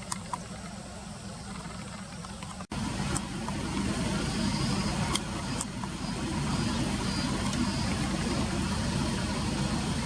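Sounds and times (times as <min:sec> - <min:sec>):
low vehicle rumble: 0:00.0 - 0:10.0.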